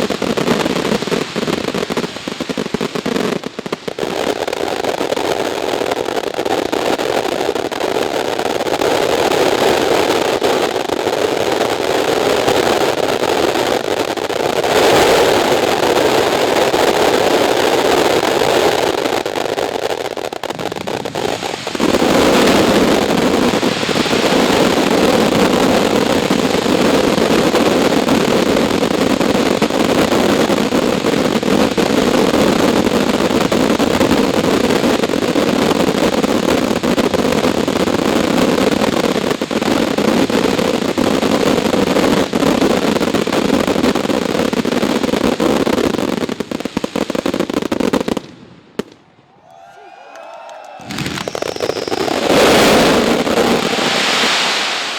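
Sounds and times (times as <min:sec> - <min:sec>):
fireworks going off: 0:00.0 - 0:54.9.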